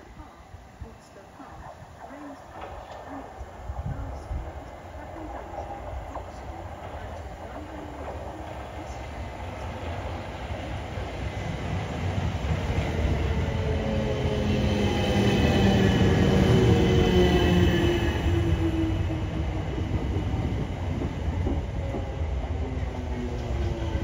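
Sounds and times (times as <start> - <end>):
electric train arriving: 0.0 - 24.0.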